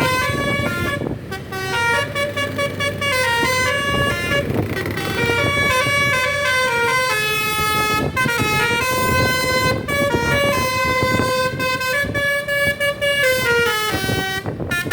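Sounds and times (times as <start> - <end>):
bus air horn playing a tune: 0.0 - 14.9.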